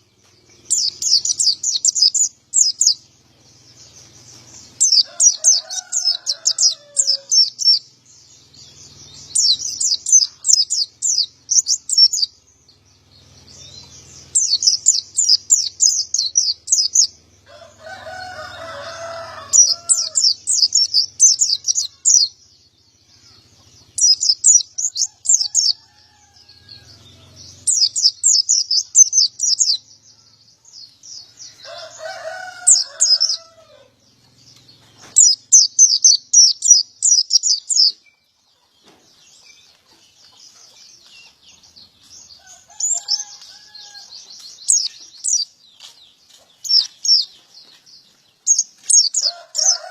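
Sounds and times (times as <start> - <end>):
bird twittering song: 0.0 - 49.9.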